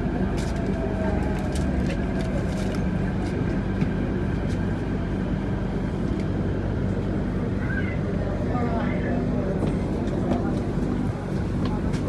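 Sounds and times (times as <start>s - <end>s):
train wheels rumbling on rails: 0.0s - 7.6s, 9.4s - 12.0s.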